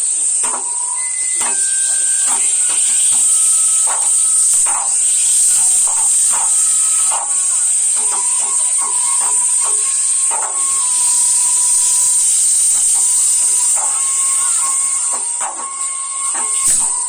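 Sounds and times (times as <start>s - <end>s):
fireworks hissing: 0.0s - 17.0s.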